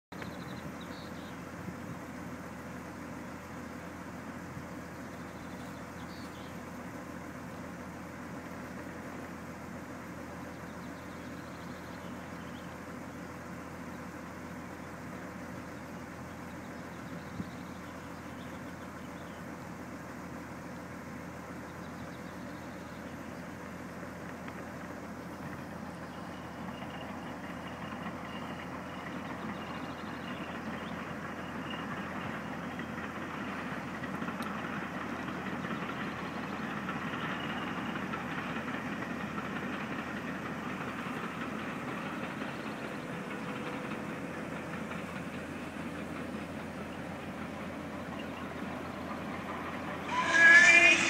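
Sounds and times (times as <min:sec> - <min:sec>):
distant steam train rumble: 0:00.1 - 0:51.0.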